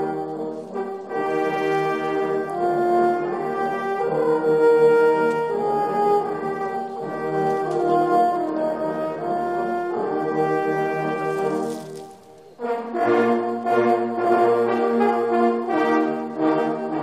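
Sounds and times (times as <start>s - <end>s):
sustained brass chords: 0.0s - 17.0s.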